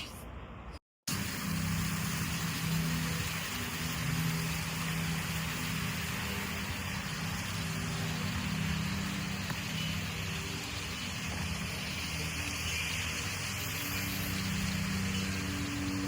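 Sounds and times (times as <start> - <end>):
low motor hum: 0.6 - 16.0
even hiss: 1.1 - 16.0.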